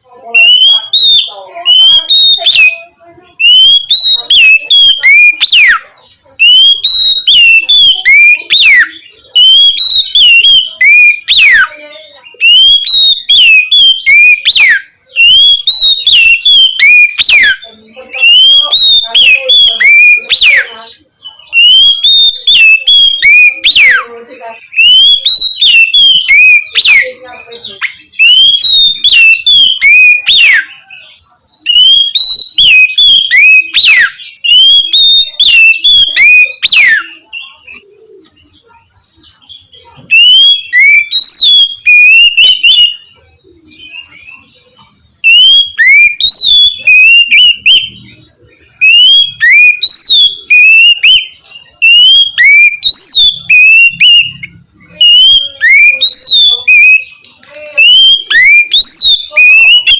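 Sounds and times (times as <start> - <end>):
bird singing whistled song: 0.3 - 24.1, 24.7 - 59.9.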